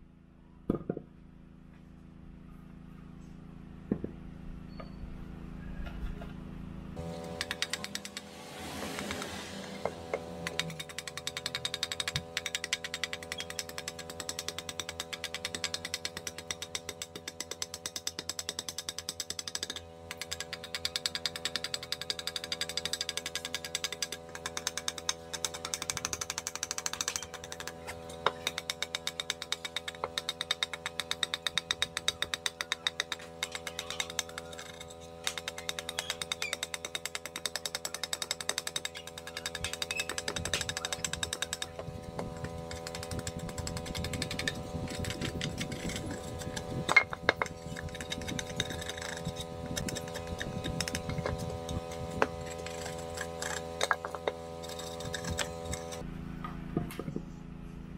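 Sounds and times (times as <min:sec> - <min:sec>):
steady low hum: 0:00.0 - 0:57.9
knife chopping wooden bowl: 0:08.9 - 0:56.0.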